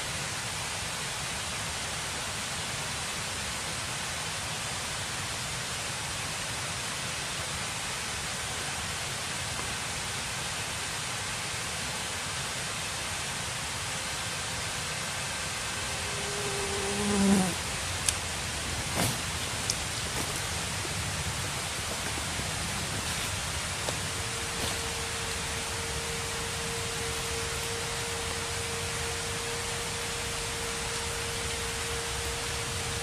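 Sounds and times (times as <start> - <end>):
steady outdoor hiss: 0.0 - 33.0.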